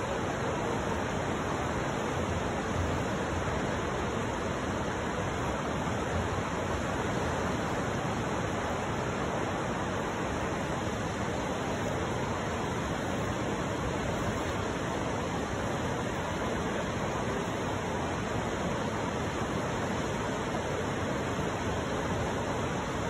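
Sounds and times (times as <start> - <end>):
river water rushing over rapids: 0.0 - 23.0.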